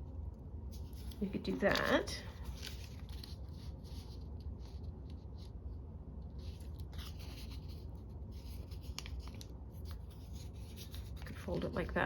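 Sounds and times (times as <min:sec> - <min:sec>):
paper rustling and folding: 0:00.7 - 0:12.0.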